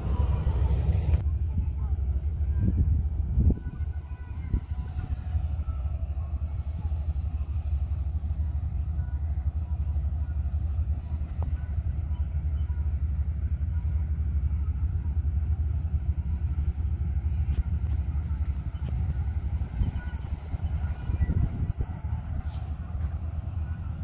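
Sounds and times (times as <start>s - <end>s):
combine harvester engine rumbling: 0.0s - 24.0s.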